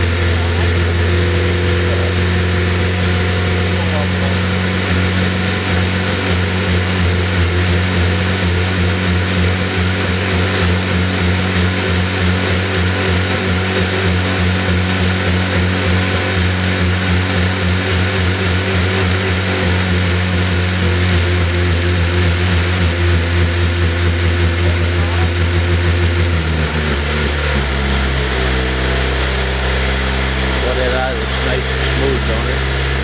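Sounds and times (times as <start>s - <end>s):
aircraft engine running: 0.0s - 33.0s.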